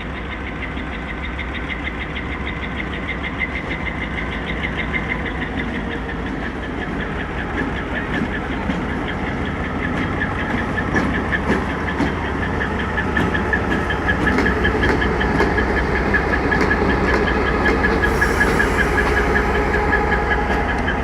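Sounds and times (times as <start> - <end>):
diesel locomotive engine rumbling: 0.0 - 21.0.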